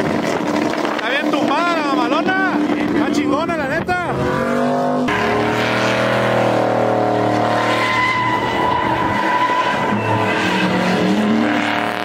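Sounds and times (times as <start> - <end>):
truck engine revving high: 0.0 - 12.0
tires squealing: 0.1 - 12.0.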